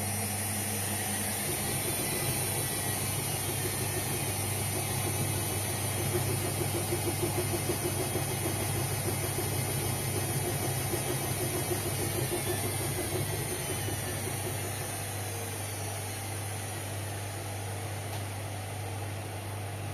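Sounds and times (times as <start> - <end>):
washing machine running: 0.0 - 19.9.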